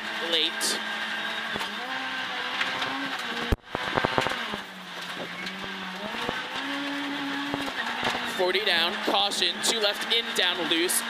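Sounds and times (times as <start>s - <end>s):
rally car engine pulling hard: 0.0s - 11.0s.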